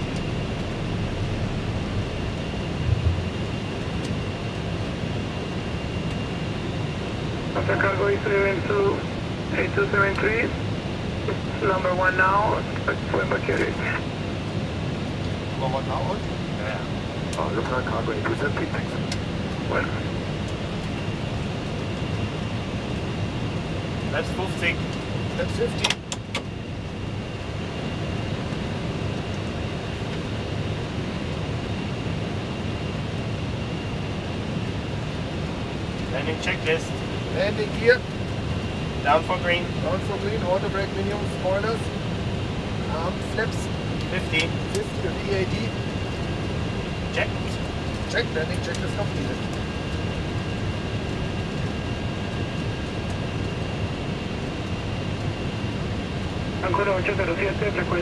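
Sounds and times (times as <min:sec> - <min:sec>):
jet cockpit air and engine noise: 0:00.0 - 0:58.0.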